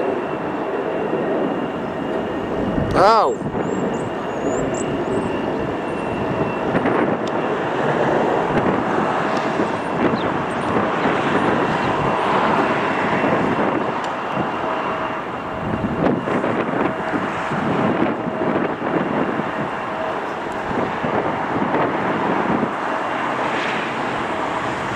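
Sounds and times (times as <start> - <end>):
jet engines roaring: 0.0 - 24.9
wind on microphone: 0.0 - 24.9.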